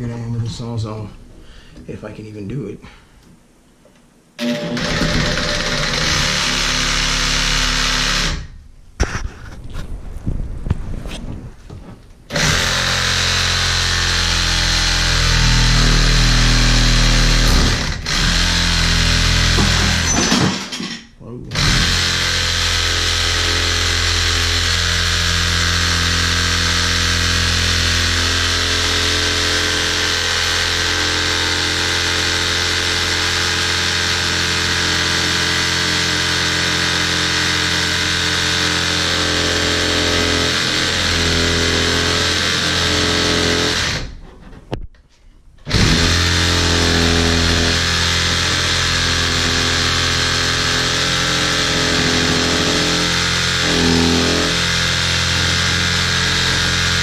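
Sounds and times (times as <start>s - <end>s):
reciprocating saw cutting pipe: 4.4s - 8.5s, 12.3s - 20.1s, 21.6s - 44.1s, 45.7s - 57.0s.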